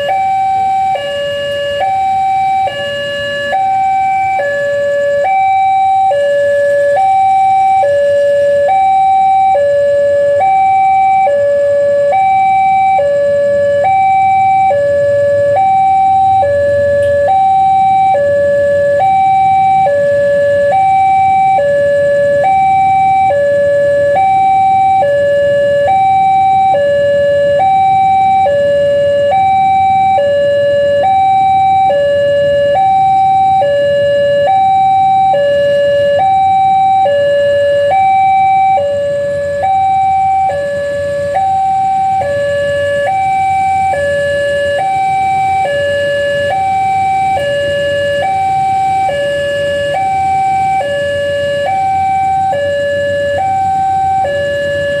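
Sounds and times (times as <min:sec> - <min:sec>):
two-tone level crossing alarm: 0:00.0 - 0:55.0.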